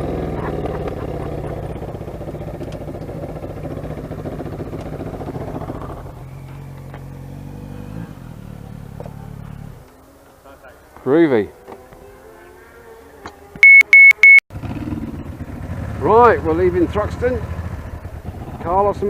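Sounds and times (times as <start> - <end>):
motorcycle engine from inside helmet: 0.0 - 10.4, 11.6 - 19.0.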